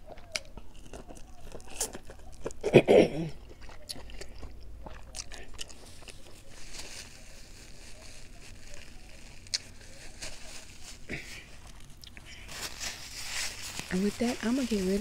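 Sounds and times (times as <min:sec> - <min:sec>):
chewing corn on the cob: 0:00.0 - 0:12.5.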